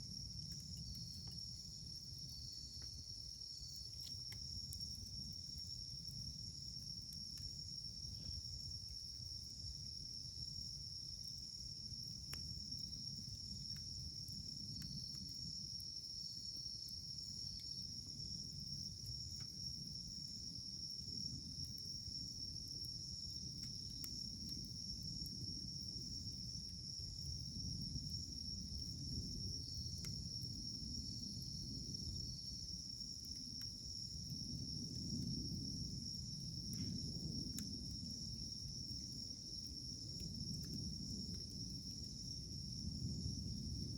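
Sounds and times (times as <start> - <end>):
wood fire rumbling and crackling: 0.0 - 43.9.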